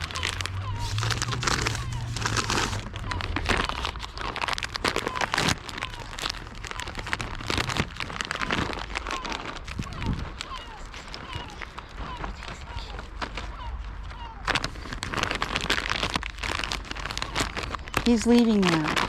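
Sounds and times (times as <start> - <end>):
rustling and crunching handling noise: 0.0 - 19.0.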